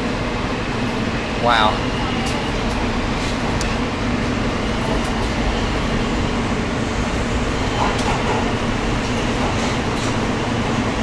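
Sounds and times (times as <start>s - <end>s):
low hum: 0.0s - 11.0s
train wheels rumbling on rails: 0.0s - 11.0s.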